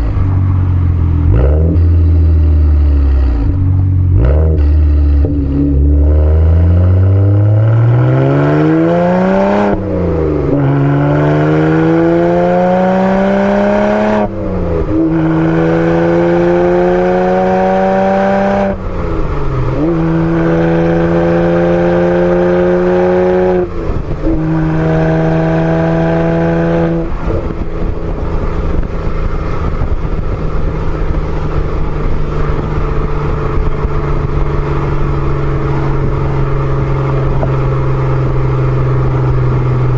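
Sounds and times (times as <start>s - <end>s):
car exhaust accelerating through gears: 0.0s - 39.9s.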